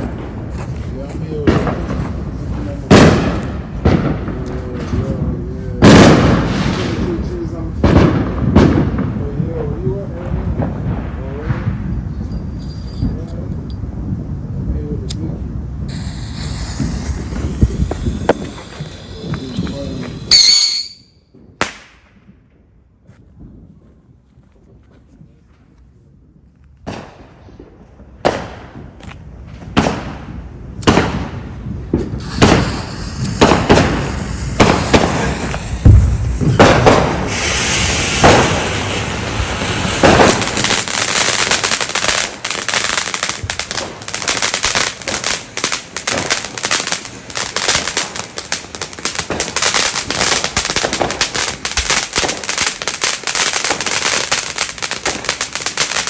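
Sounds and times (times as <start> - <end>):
firecrackers banging and crackling: 0.0 - 14.3, 15.9 - 22.5, 26.8 - 56.0.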